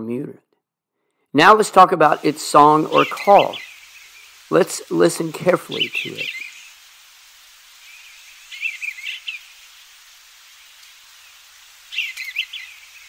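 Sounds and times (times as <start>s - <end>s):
faint outdoor hiss: 1.0s - 13.0s
bluebird warbling song: 2.1s - 13.0s.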